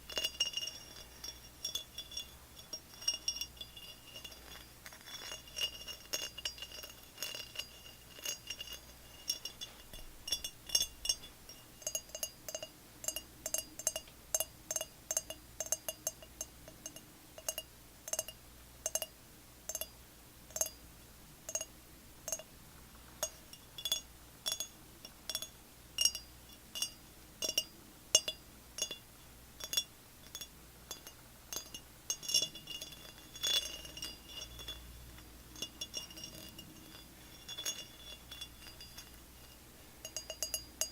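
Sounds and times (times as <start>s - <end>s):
tapping on glass: 0.0s - 19.1s, 19.7s - 19.9s, 20.5s - 20.8s, 23.2s - 29.0s, 29.6s - 40.9s.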